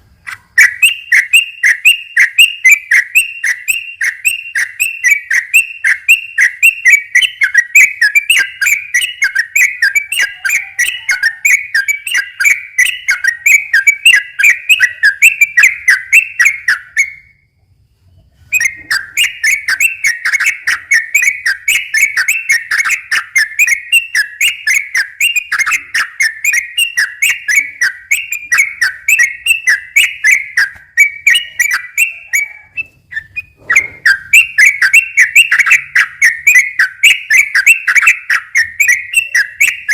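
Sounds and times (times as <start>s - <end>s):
bird singing chattering whistles: 0.2s - 17.4s, 18.5s - 39.9s.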